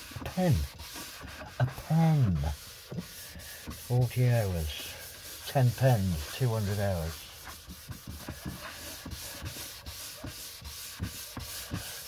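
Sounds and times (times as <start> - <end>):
cloth rubbing on wood: 0.0 - 12.0.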